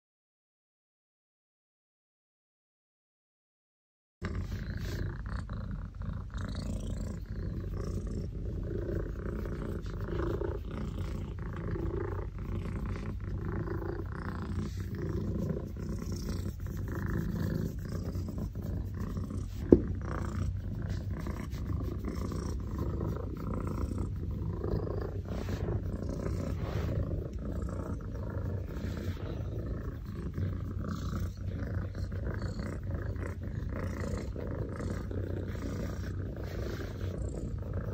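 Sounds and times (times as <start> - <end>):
cat purring: 4.2 - 37.9.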